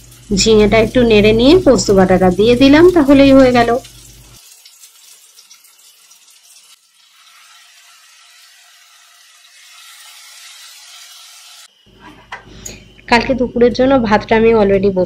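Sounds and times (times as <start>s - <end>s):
food sizzling in a pot: 0.0s - 12.3s.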